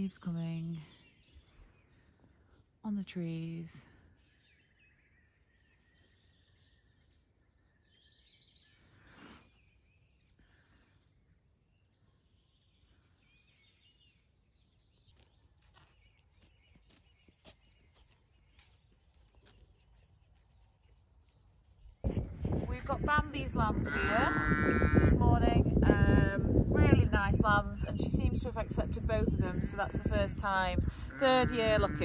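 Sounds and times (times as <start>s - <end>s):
faint distant birdsong: 0.0s - 25.8s.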